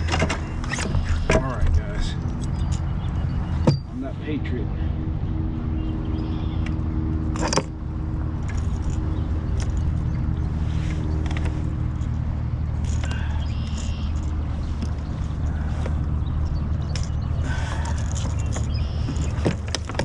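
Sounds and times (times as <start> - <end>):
boat motor droning: 0.0 - 20.0
pitched hum: 0.0 - 20.0.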